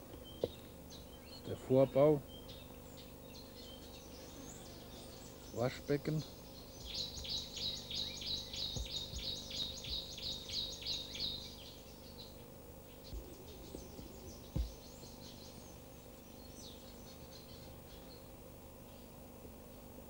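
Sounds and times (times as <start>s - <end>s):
bird chirping rapidly: 0.9s - 18.2s.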